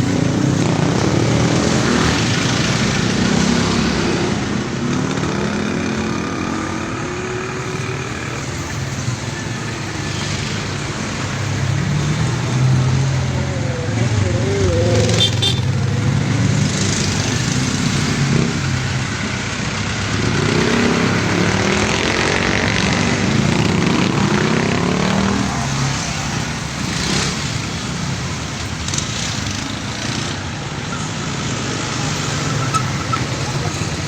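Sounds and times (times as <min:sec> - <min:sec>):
motorcycle engine running: 0:00.0 - 0:30.8
road and wind noise: 0:00.0 - 0:34.0.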